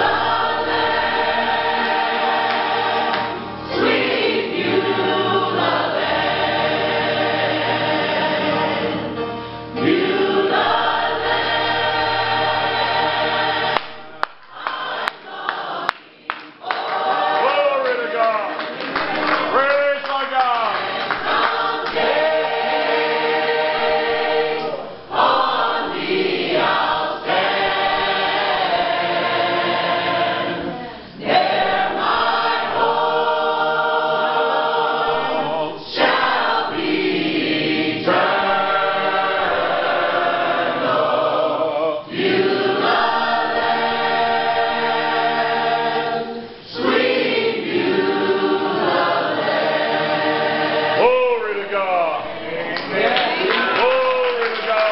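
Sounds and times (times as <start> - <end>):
church choir singing gospel: 0.0 - 54.9.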